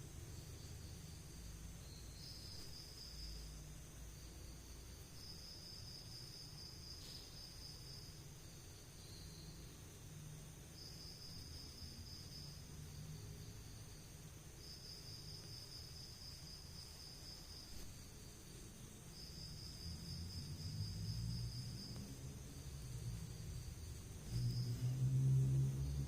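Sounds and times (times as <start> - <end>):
cricket trilling: 0.0 - 26.0.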